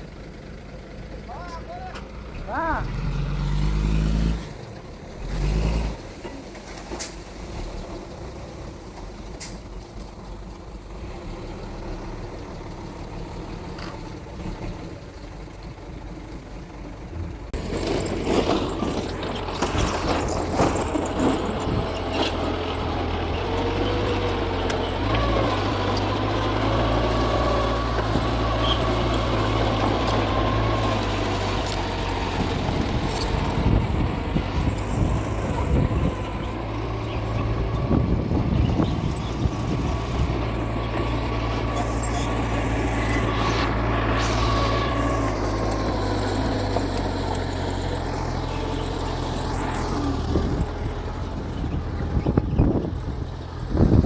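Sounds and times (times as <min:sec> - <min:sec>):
bulldozer engine under load: 0:00.0 - 0:54.0.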